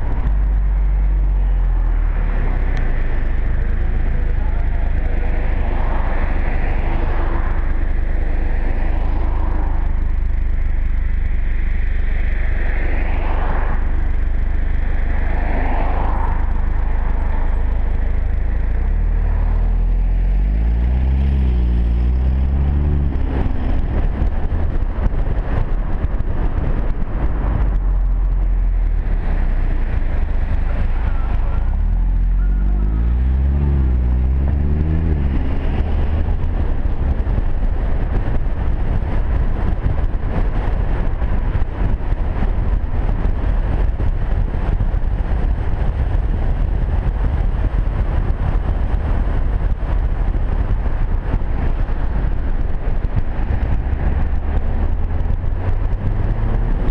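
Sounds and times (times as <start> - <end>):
car engine accelerating through gears: 0.0 - 50.5, 51.3 - 56.9
road noise: 0.0 - 56.9
wind noise: 0.0 - 56.9.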